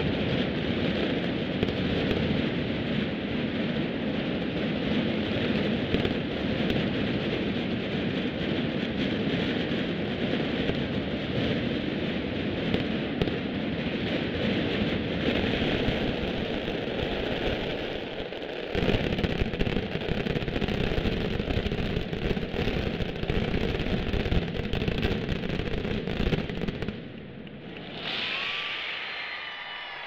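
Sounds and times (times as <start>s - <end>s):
firecracker barrage: 0.0s - 30.0s.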